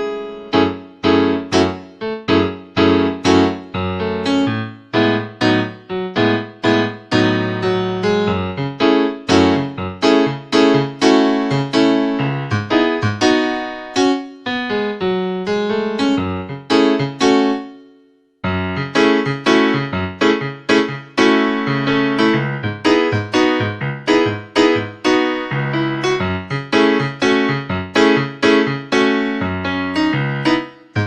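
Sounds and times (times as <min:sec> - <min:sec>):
electronic keyboard piano music: 0:00.0 - 0:31.0.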